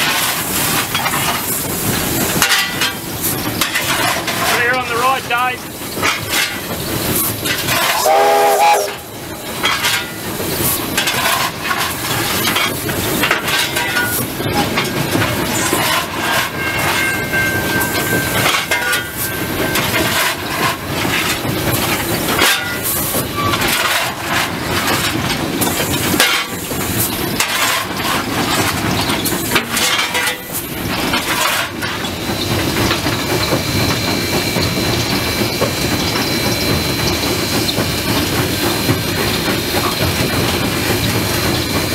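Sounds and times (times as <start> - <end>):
locomotive clanking and rattling: 0.0 - 41.9
steam hissing: 0.0 - 41.9.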